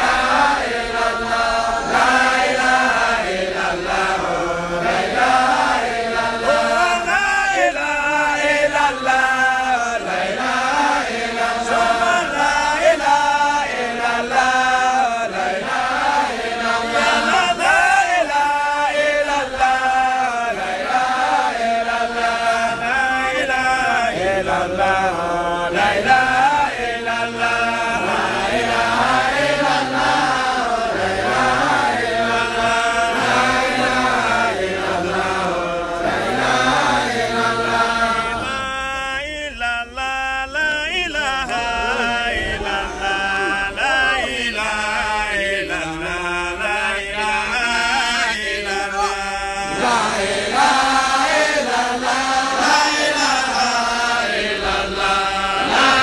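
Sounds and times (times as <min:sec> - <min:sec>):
voices chanting: 0:00.0 - 0:56.0.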